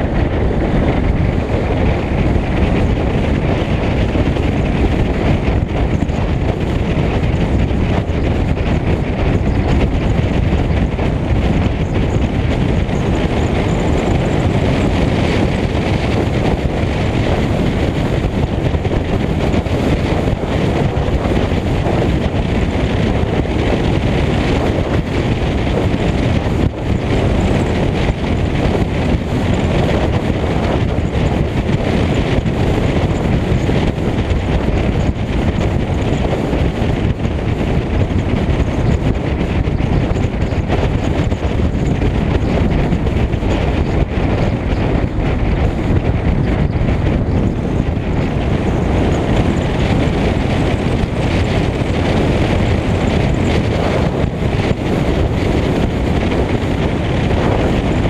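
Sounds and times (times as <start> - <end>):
tyre and road noise: 0.0 - 58.0
wind buffeting microphone: 0.0 - 58.0.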